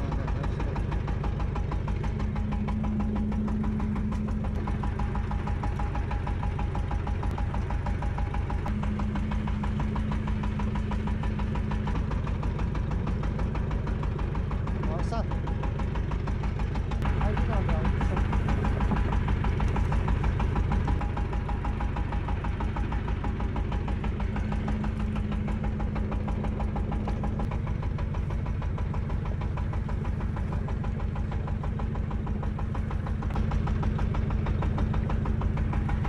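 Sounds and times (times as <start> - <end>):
boat engine chugging: 0.0 - 36.0.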